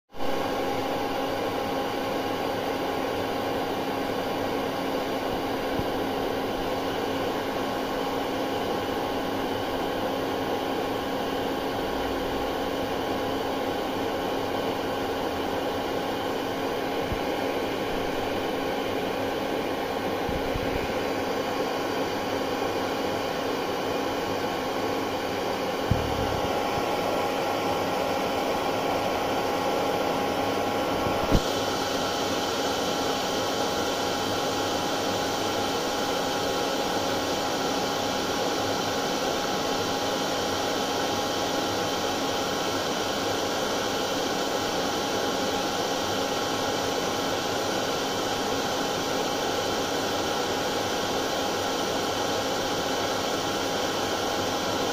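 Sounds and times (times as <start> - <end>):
hair dryer running: 0.4 - 54.9.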